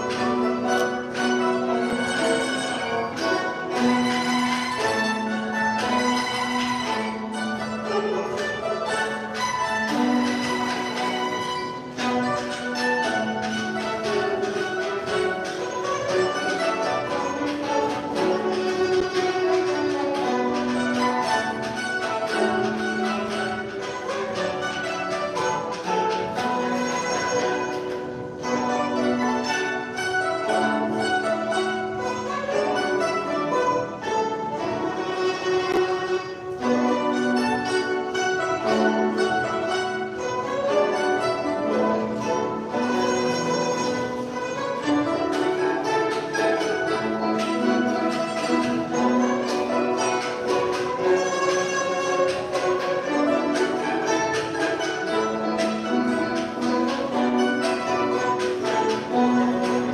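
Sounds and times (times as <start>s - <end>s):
zither ensemble plucking: 0.0s - 59.9s.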